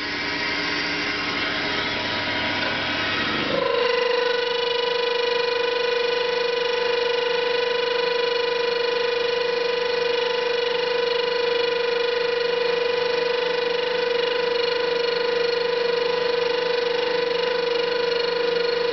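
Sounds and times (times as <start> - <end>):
lathe tool chattering with ringing: 0.0 - 18.9.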